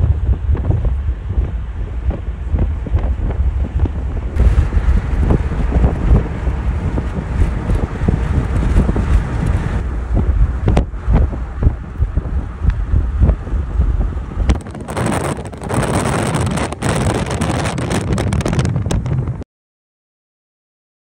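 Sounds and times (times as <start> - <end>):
road noise rumble: 0.0 - 19.4
wind buffeting microphone: 0.0 - 19.4.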